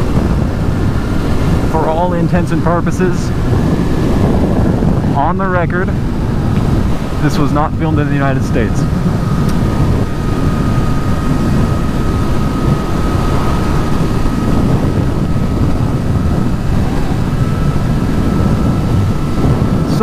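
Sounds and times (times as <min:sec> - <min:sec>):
faint high whine: 0:00.0 - 0:20.0
motorcycle engine: 0:00.0 - 0:20.0
wind buffeting microphone: 0:00.0 - 0:20.0.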